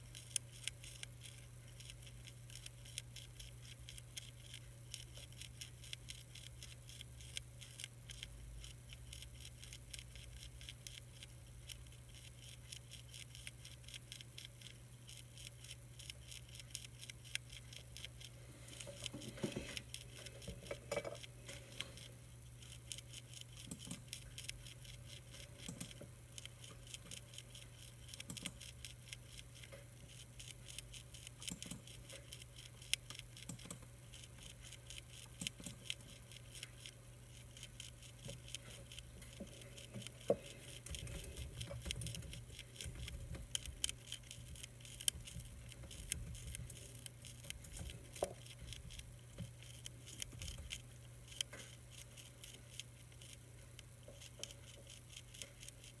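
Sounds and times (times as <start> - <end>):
caterpillar chewing leaf: 0.0 - 56.0
low steady hum: 0.0 - 56.0.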